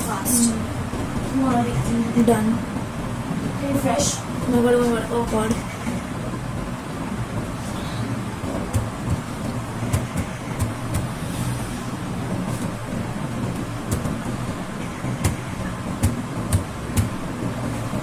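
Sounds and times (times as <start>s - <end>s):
rushing background noise: 0.0s - 18.0s.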